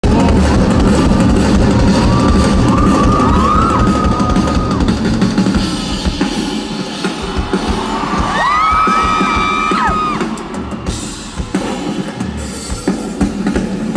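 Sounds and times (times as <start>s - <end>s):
live rock band playing: 0.0s - 13.9s.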